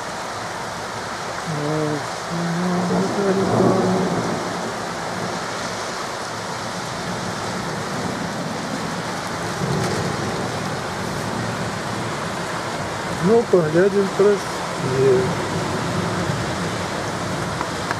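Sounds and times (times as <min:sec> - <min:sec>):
heavy rain pouring: 0:00.0 - 0:17.9.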